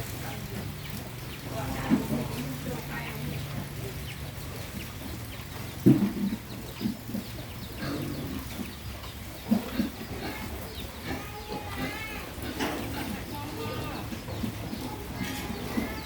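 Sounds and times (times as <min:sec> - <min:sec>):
pigs grunting: 0:00.4 - 0:16.0.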